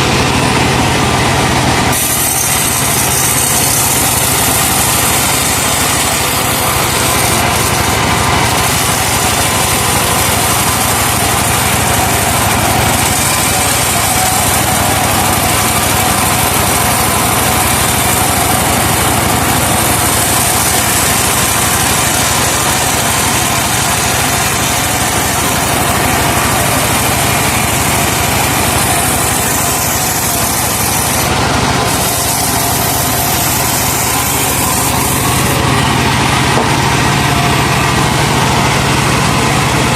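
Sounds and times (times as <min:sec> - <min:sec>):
sawmill running: 0:00.0 - 0:39.9
truck engine running: 0:00.0 - 0:39.9.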